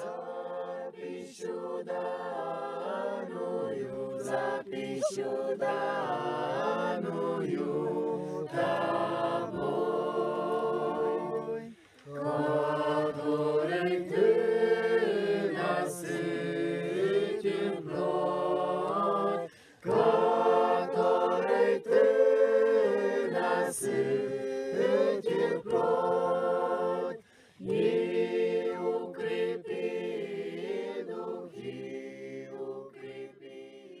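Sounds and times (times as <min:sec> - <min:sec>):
choir singing: 0:00.0 - 0:34.0.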